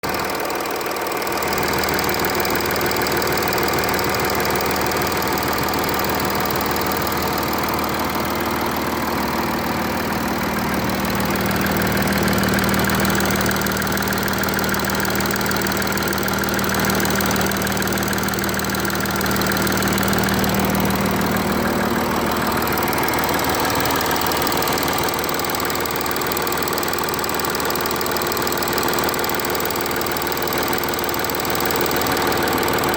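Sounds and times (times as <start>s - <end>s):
engine idling with rattling clatter: 0.0s - 32.9s.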